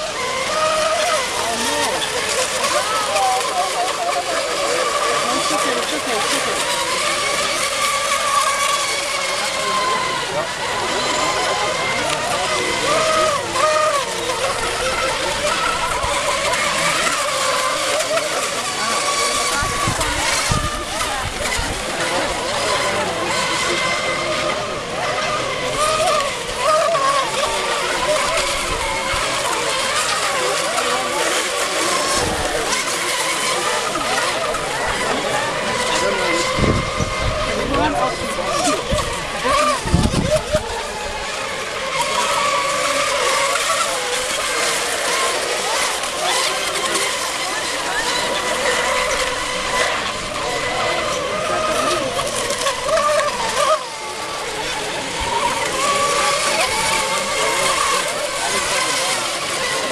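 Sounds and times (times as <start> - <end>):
model boat motors whining: 0.0 - 59.9.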